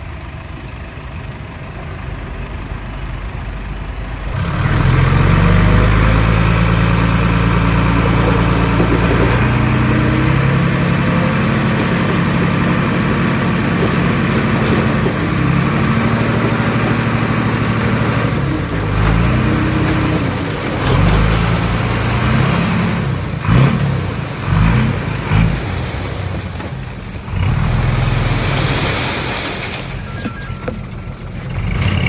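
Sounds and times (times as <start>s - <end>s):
heavy diesel engine revving: 2.3s - 29.8s, 31.4s - 32.0s.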